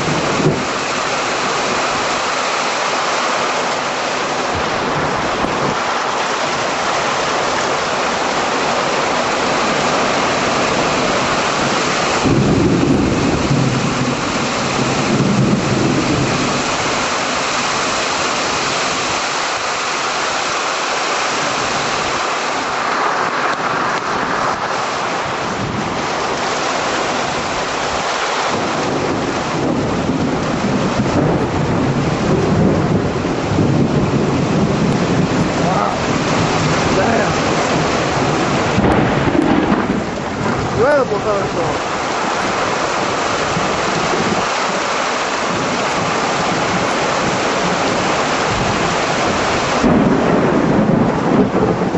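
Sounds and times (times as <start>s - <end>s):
thunder rumbling: 0.0s - 19.6s, 21.3s - 51.9s
heavy rain pouring: 0.0s - 51.9s.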